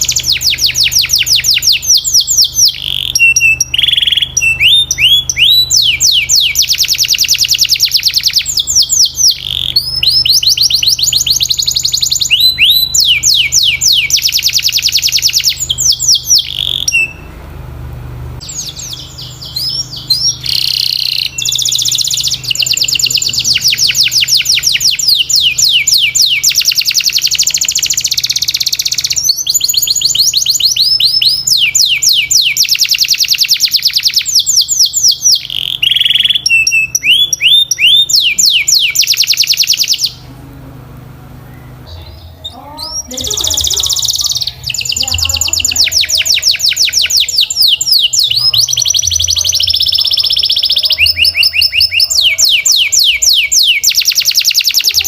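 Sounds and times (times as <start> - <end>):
canary singing trills: 0.0 - 17.4, 18.4 - 40.5, 41.1 - 55.0.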